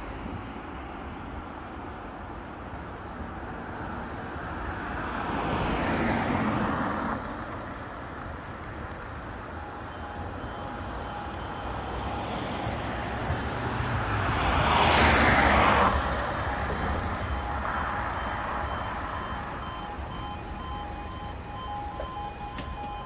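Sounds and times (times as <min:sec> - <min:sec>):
cars passing on road: 0:00.0 - 0:23.0.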